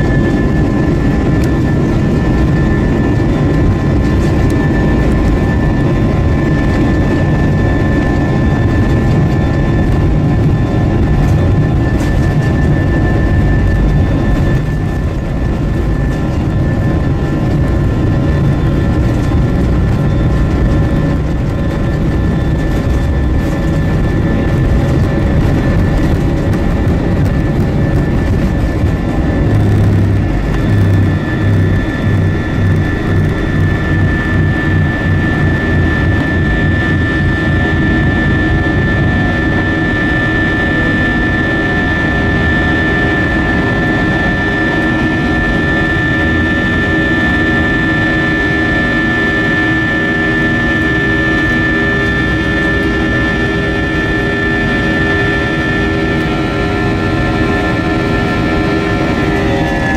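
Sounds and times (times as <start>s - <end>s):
jet engines in aircraft cabin: 0.0s - 59.9s.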